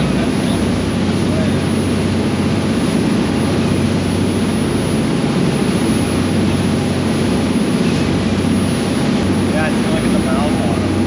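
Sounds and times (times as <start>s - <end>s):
boat engine humming: 0.0s - 11.0s
rush of wind and water: 0.0s - 11.0s.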